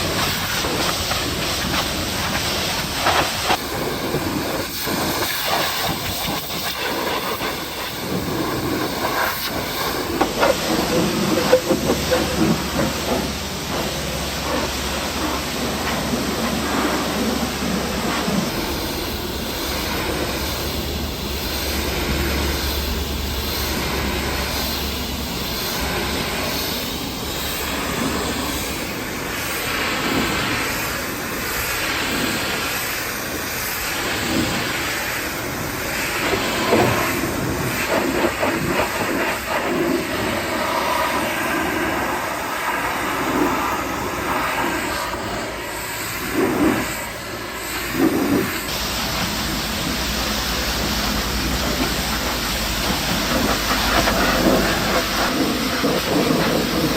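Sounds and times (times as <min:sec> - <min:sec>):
pressure washer spraying water: 0:00.0 - 0:56.9.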